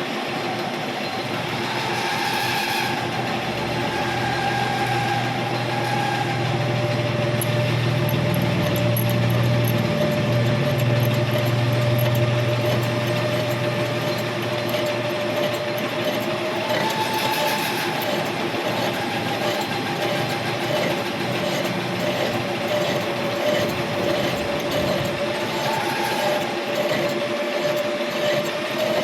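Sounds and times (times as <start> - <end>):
metal lathe running: 0.0 - 29.0.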